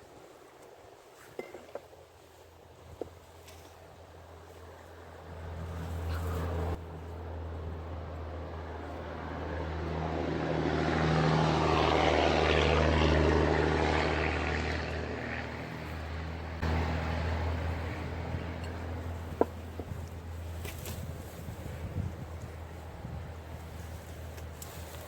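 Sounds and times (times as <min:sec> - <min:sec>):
passing vehicle engine: 0:04.5 - 0:25.0.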